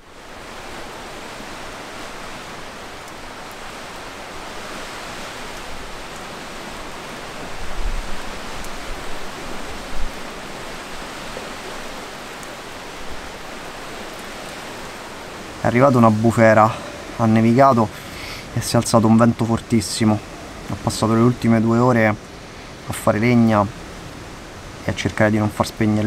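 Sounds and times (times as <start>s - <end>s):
wind blowing through trees: 0.0s - 26.0s
wind gusts buffeting microphone: 0.0s - 26.0s.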